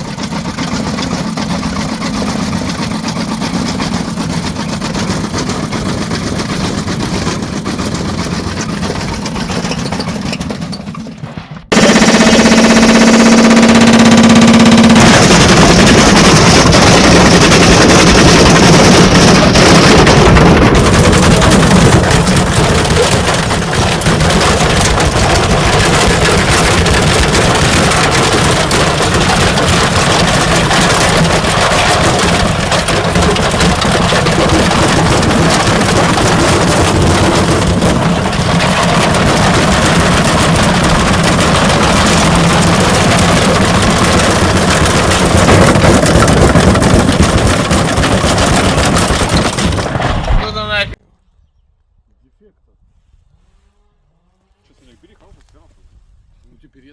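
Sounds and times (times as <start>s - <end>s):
washing machine motor hum: 0.0s - 10.4s, 11.7s - 51.0s
brick rattling in washing machine: 0.0s - 51.0s.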